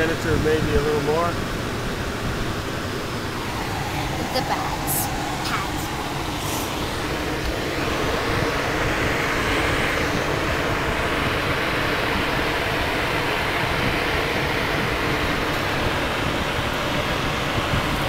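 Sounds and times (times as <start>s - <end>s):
rush of air past cockpit: 0.0s - 18.0s.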